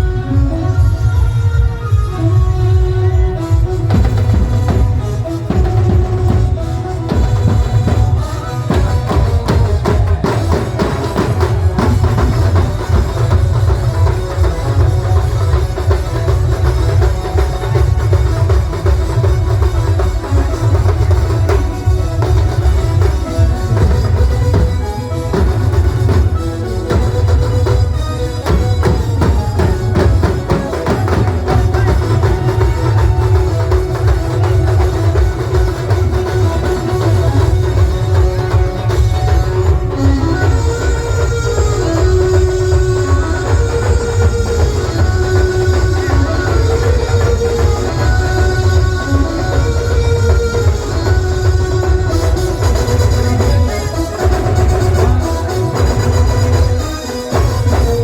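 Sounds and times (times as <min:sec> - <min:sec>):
drums beating: 0:00.0 - 0:58.0
held melody: 0:00.0 - 0:58.0.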